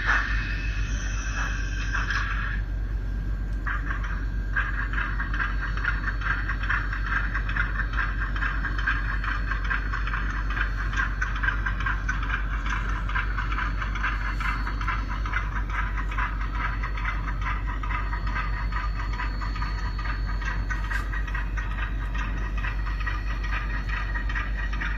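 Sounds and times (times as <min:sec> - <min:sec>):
low steady hum: 0:00.0 - 0:24.9
model train wheels clattering: 0:03.6 - 0:24.9.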